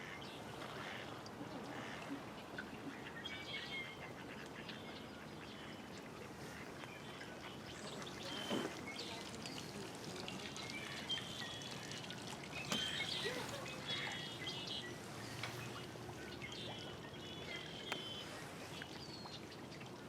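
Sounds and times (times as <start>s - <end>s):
water trickling: 0.0s - 20.0s
small birds chirping: 3.2s - 20.0s.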